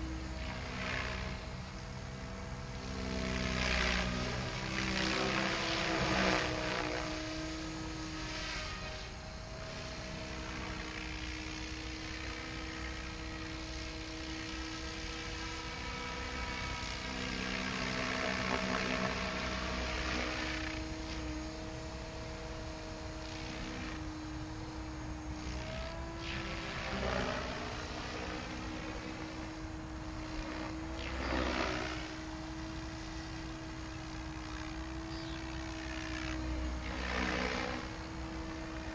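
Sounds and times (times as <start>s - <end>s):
model helicopter rotor hum: 0.0s - 38.9s.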